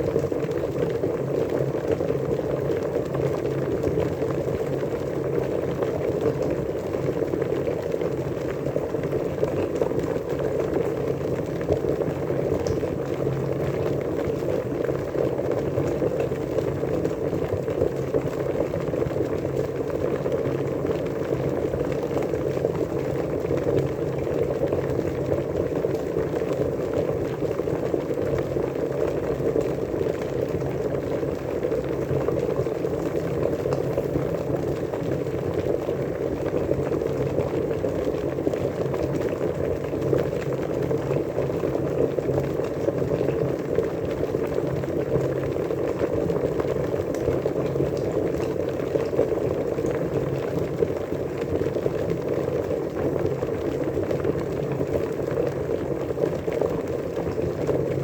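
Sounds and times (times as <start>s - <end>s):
water boiling: 0.0s - 58.0s.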